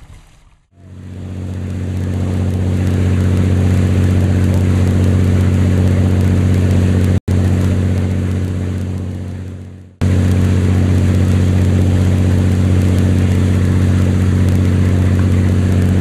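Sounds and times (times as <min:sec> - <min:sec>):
boat engine running hard: 0:00.8 - 0:16.0.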